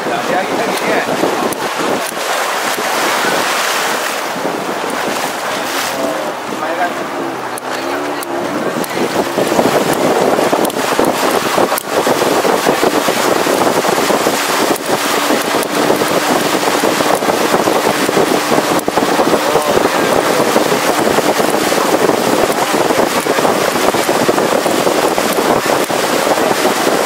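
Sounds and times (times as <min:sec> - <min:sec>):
river water rushing: 0:00.0 - 0:27.0
wind buffeting microphone: 0:00.0 - 0:27.0.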